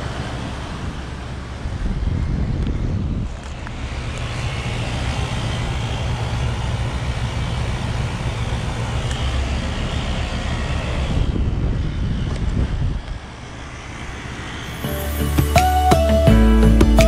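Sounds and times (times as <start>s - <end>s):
heat pump low hum: 0.0s - 14.7s.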